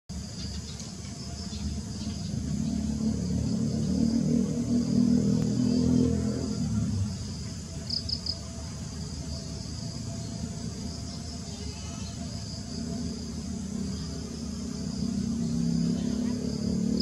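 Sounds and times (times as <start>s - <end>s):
high-pitched insect drone: 0.1s - 17.0s
low background rumble: 0.2s - 17.0s.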